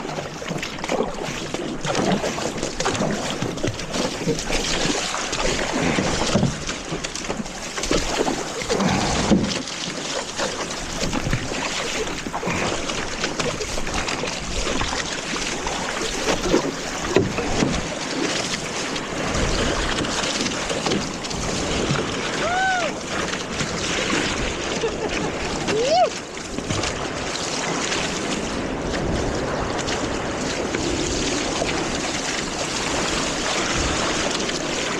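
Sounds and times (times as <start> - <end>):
water rushing and splashing: 0.0 - 34.9.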